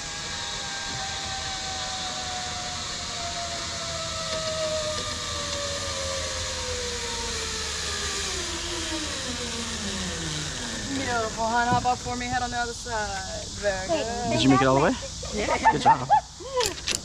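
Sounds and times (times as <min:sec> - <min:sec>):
zip line pulley whine: 0:00.0 - 0:17.0.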